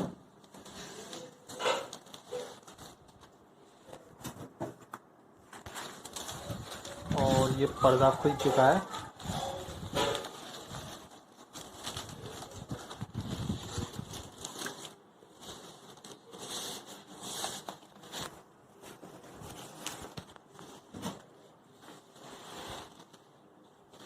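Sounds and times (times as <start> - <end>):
plastic packaging crinkling: 0.3 - 24.0.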